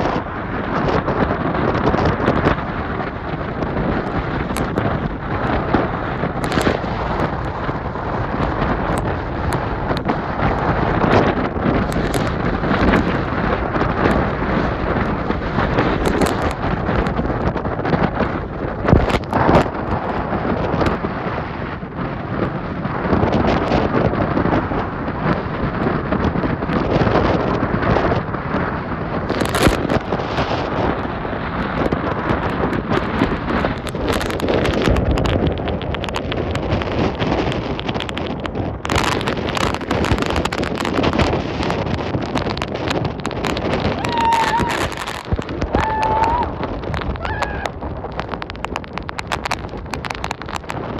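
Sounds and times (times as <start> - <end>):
wind gusts buffeting microphone: 0.0 - 50.9.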